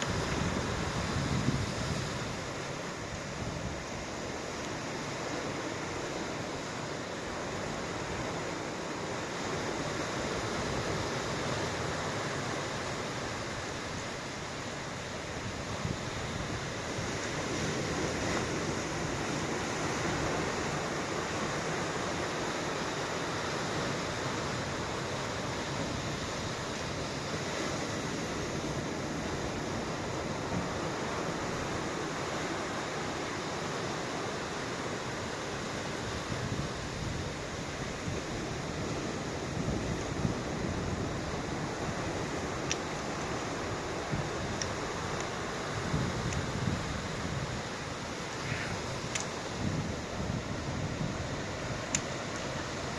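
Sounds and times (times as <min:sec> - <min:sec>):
waves washing ashore: 0:00.0 - 0:52.9.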